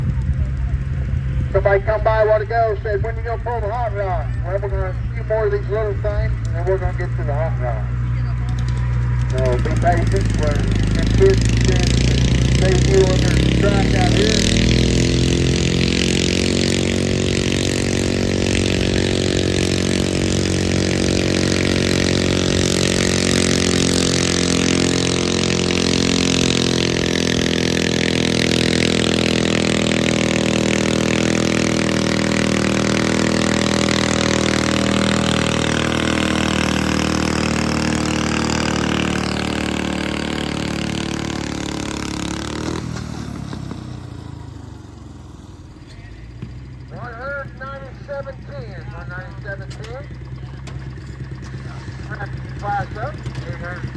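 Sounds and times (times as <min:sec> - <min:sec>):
tractor engine running hard: 0:00.0 - 0:53.9.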